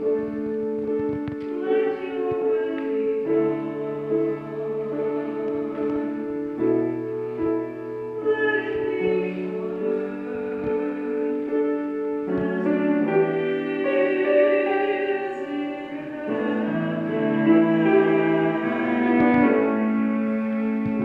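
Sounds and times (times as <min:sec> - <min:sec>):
piano accompaniment: 0:00.0 - 0:21.0
choir singing in harmony: 0:01.9 - 0:06.9, 0:08.3 - 0:21.0.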